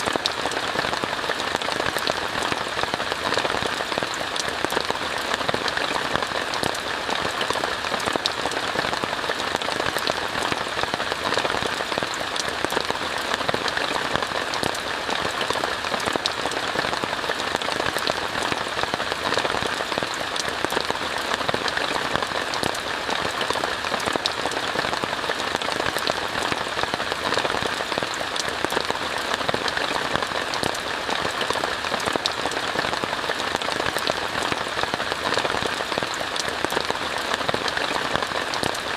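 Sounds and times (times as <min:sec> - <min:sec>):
rain falling on a tent: 0:00.0 - 0:38.9.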